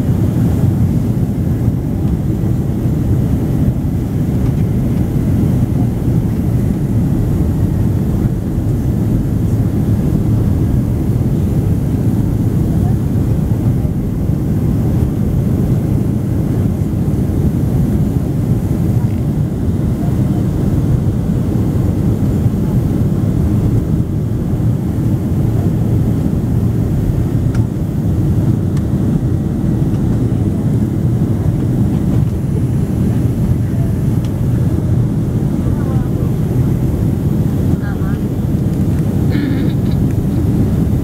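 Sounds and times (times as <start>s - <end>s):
air rushing over fuselage: 0.0s - 41.0s
airplane cabin engine rumble: 0.0s - 41.0s.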